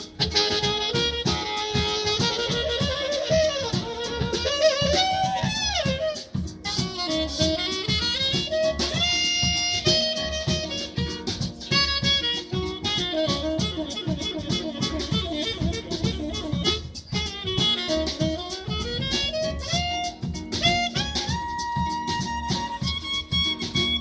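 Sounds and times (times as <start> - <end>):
double bass: 0.0 - 24.0
tenor saxophone melody: 0.0 - 24.0.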